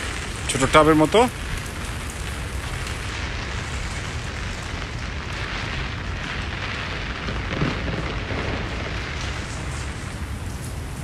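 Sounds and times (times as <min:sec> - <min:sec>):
steady rain: 0:00.0 - 0:11.0
wind rumbling on microphone: 0:00.0 - 0:11.0.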